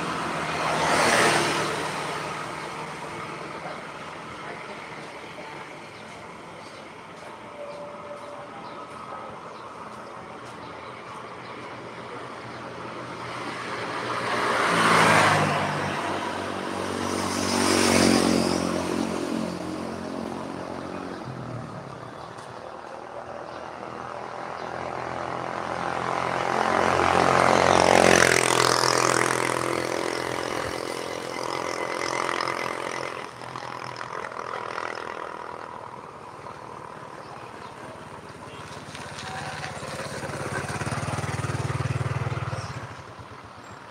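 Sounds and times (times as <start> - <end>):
background traffic hum: 0.0 - 43.9
vehicles passing close by: 0.0 - 43.9.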